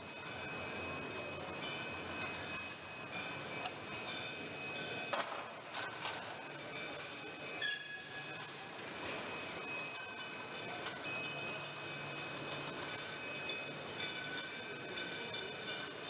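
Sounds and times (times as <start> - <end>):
bottle machine running with squealing: 0.0 - 16.0.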